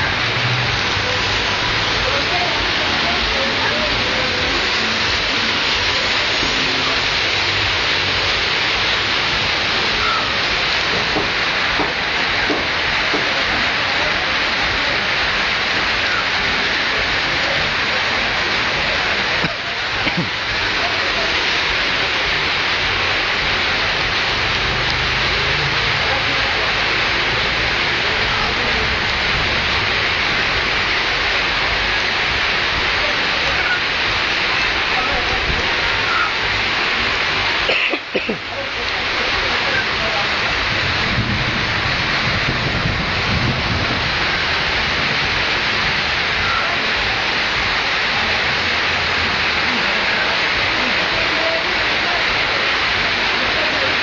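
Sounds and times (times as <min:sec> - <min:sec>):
heavy rain on roofs: 0:00.0 - 0:54.0.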